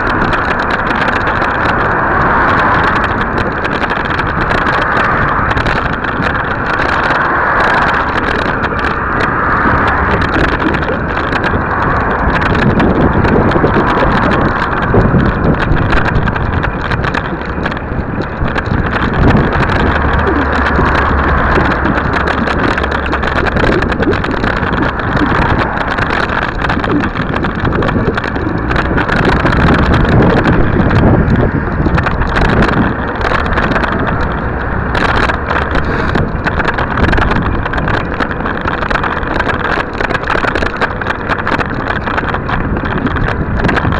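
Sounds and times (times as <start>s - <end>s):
passing cars: 0.0s - 43.9s
rumble of riding over paving: 0.0s - 43.9s
wind buffeting microphone: 0.0s - 43.9s.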